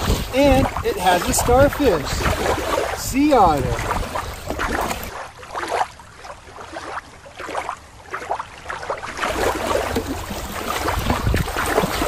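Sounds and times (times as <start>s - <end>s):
water lapping and splashing: 0.0s - 12.0s.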